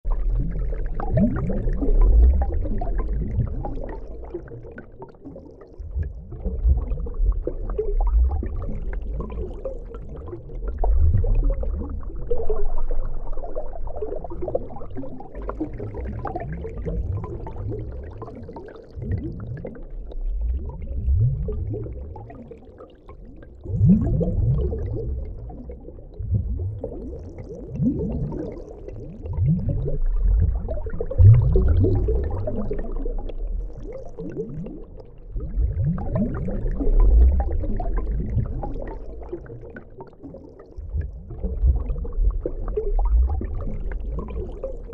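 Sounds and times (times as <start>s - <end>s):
underwater rumbling surge: 0.1s - 4.8s, 5.8s - 18.4s, 23.3s - 44.9s.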